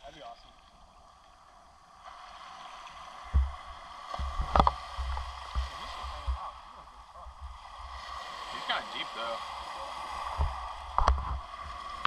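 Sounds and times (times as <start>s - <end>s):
ocean waves lapping on shore: 1.5s - 12.0s.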